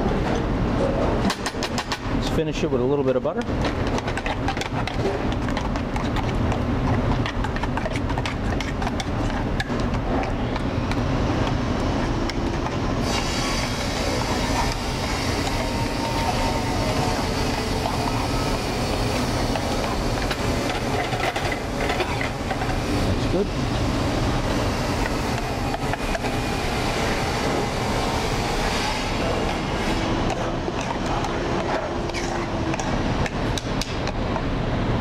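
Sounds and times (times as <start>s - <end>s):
low kitchen rumble: 0.0s - 35.0s.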